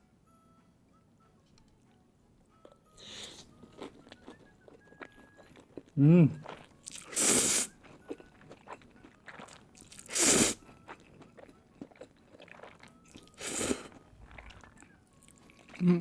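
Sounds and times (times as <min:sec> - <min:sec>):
quiet chewing: 0:02.6 - 0:16.0.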